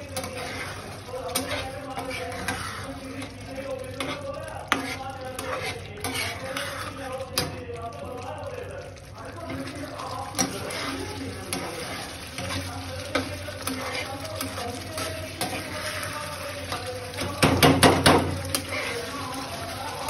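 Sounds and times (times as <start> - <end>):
metal spatula scraping a pan: 0.0 - 7.6, 9.5 - 20.0.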